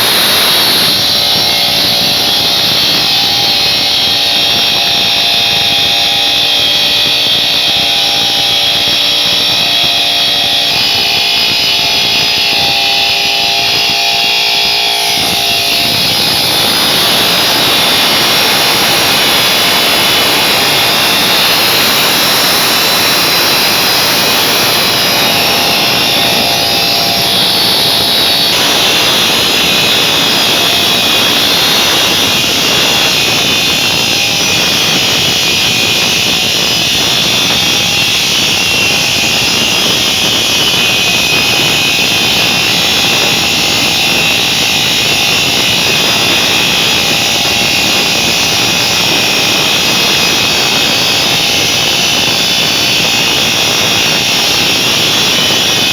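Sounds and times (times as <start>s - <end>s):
cutting machine hiss and whine: 0.0s - 55.9s.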